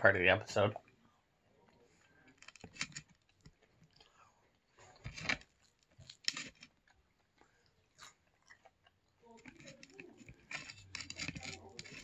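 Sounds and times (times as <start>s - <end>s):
chewing crispy crust crunches: 1.6s - 12.0s.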